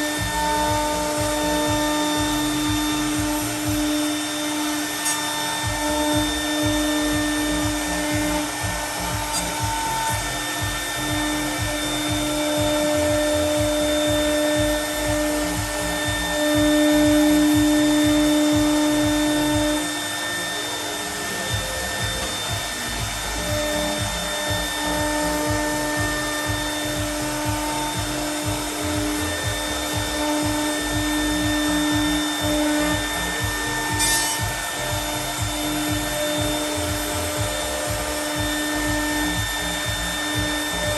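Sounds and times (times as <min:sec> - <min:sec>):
rough cutting noise: 0:00.0 - 0:40.9
router spindle whine: 0:00.0 - 0:40.9.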